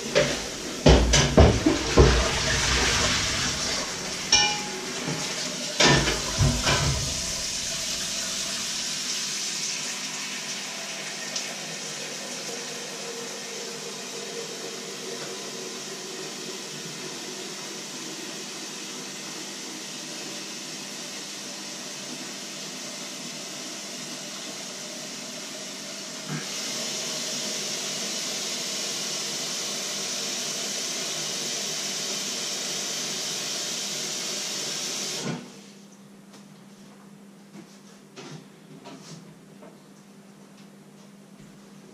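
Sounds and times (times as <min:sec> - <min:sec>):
water running from tap: 0:00.0 - 0:35.3.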